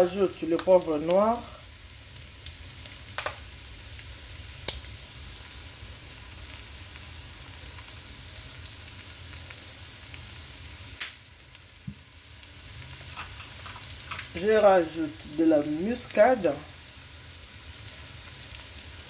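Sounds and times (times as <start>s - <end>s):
rice sizzling in a pan: 0.0s - 19.0s.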